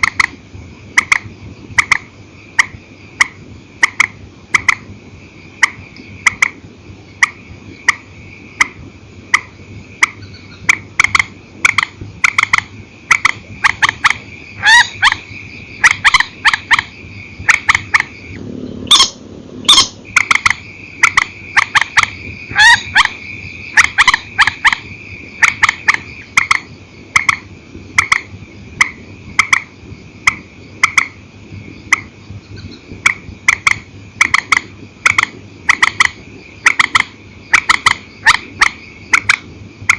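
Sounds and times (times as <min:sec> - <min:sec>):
swamphen calling: 0:00.0 - 0:39.5
steady high-pitched hum: 0:00.0 - 0:39.9.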